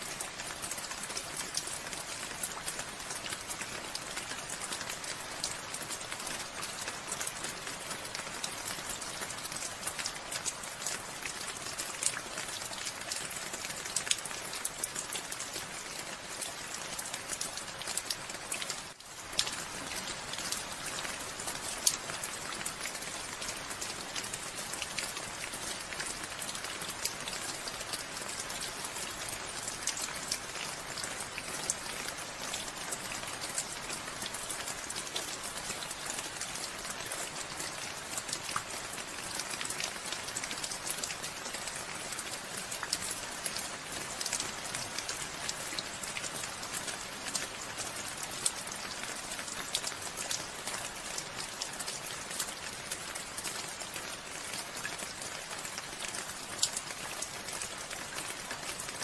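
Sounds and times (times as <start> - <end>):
rain drops ticking on a surface: 0.0 - 59.0
rain falling: 0.0 - 59.0.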